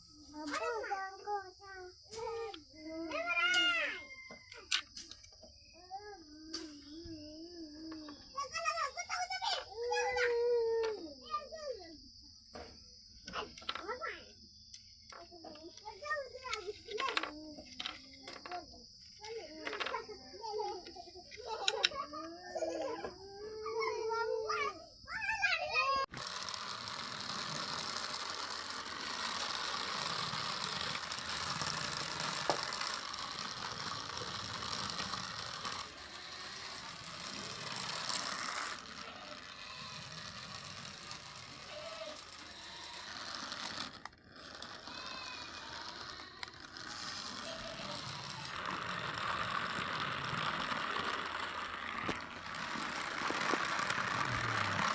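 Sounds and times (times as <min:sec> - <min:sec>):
toy truck whirring rattle: 0:00.0 - 0:54.9.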